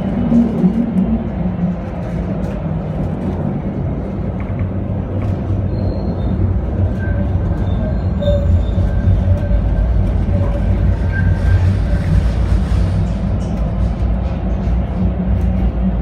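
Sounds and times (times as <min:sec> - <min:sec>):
tram rumble: 0:00.0 - 0:16.0.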